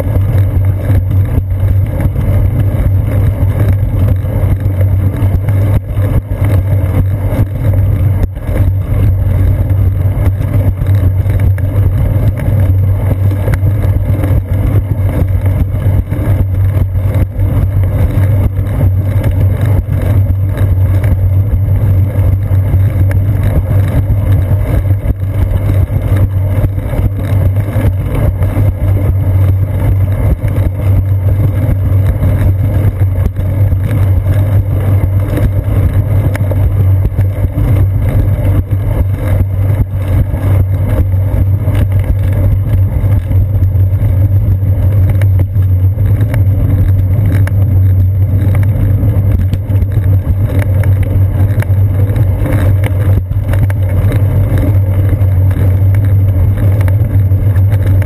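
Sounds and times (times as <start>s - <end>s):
bicycle rolling on concrete: 0.0s - 58.0s
wind on camera: 0.0s - 58.0s.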